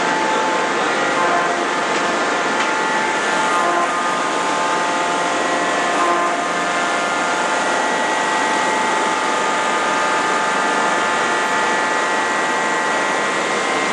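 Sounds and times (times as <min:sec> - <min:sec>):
electric motors whining: 0:00.0 - 0:13.9.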